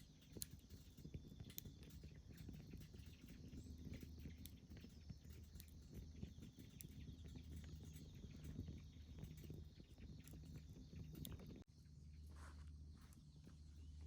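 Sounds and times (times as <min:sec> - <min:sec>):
campfire crackling: 0:00.0 - 0:11.7
low steady hum: 0:00.0 - 0:14.0.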